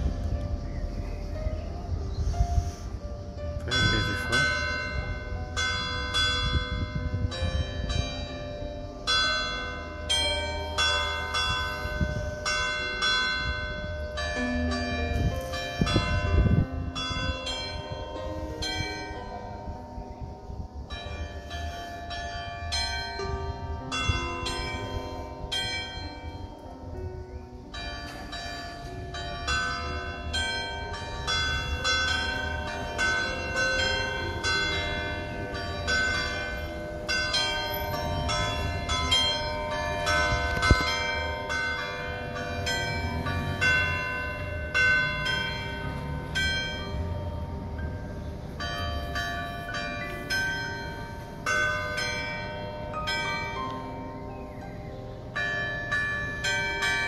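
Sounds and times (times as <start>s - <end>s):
church bells ringing a peal: 0.0s - 57.0s.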